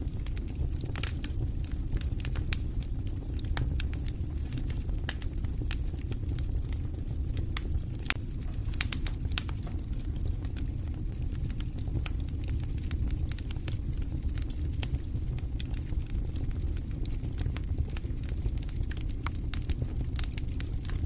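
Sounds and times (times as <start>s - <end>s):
low rumble of flame: 0.0s - 21.0s
wood crackling and popping: 0.0s - 21.0s.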